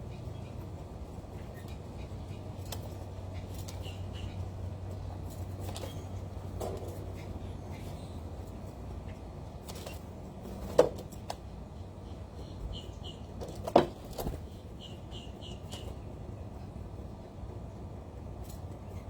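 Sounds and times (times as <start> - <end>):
small birds chirping: 0.0 - 17.6
steady low hum: 0.0 - 19.0.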